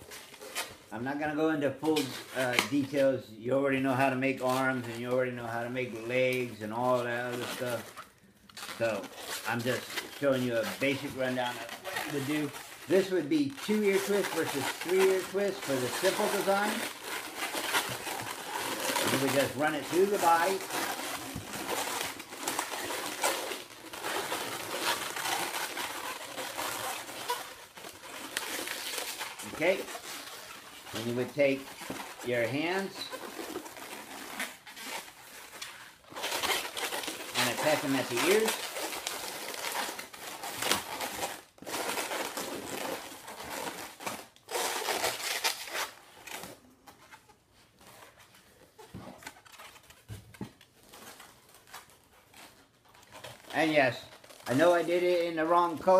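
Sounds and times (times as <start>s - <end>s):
balloons rubbing and squeaking: 0.0s - 55.9s.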